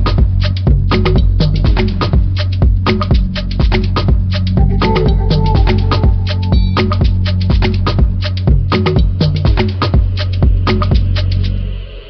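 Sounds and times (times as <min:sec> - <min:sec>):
bass line: 0:00.0 - 0:11.6
music with fast drum beat: 0:00.0 - 0:11.8.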